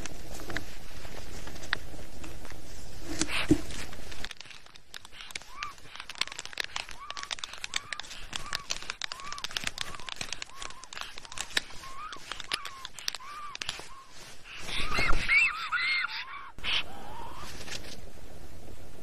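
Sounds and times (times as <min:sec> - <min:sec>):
clicks and rustling on sticks: 0:00.0 - 0:16.3, 0:17.4 - 0:18.0.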